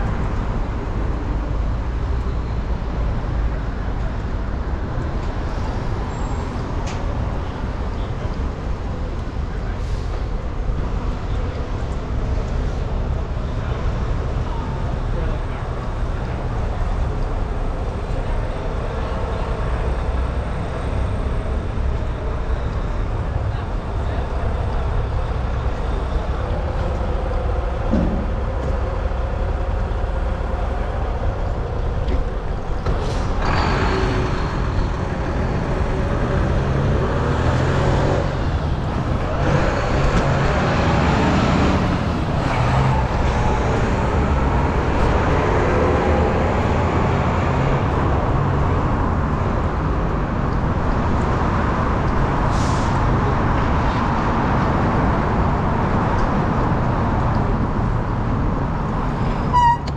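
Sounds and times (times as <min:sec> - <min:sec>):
low traffic rumble: 0:00.0 - 0:59.9
vehicles passing: 0:00.0 - 0:59.9.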